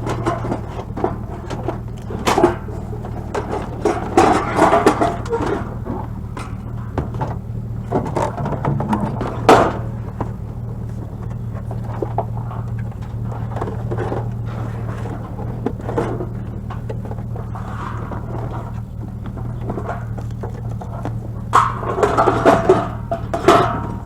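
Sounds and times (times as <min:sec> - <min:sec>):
knocks and scrapes: 0:00.0 - 0:24.0
vehicle engine idling: 0:00.0 - 0:24.0.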